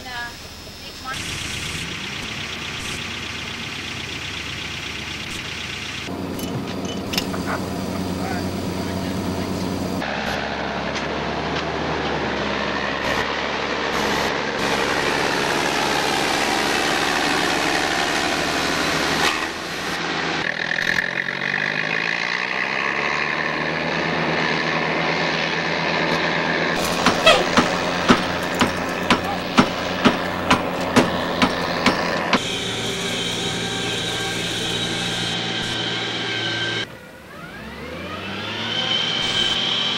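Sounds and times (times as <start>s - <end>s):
vehicle engine running: 0.0s - 38.6s.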